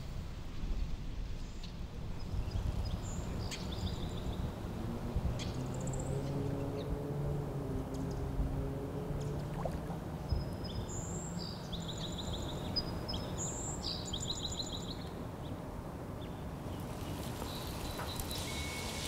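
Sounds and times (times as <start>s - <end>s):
low outdoor rush: 0.0s - 19.0s
songbird singing: 1.4s - 19.0s.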